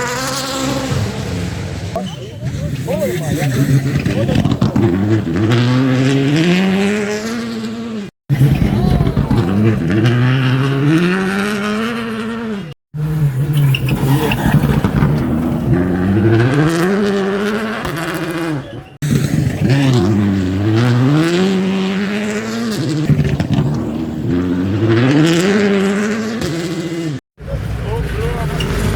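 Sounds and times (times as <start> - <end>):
rally cars accelerating: 0.0 - 28.9.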